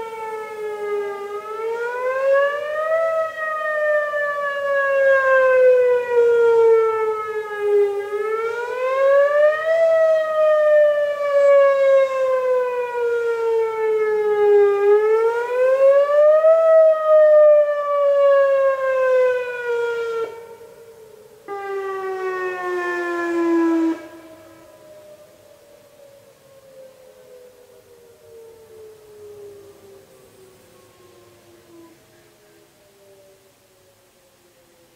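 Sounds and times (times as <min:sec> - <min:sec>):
fainter distant siren: 0:00.0 - 0:34.9
warning siren wailing: 0:00.0 - 0:34.9.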